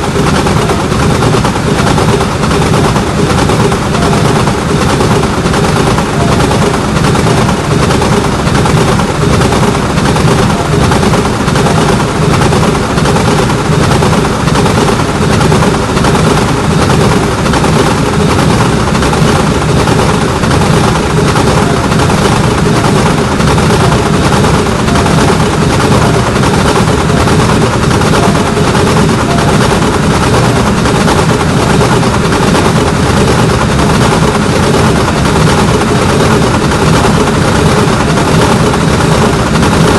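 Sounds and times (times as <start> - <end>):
train rumble: 0.0 - 39.9
train wheels clacking: 0.0 - 39.9.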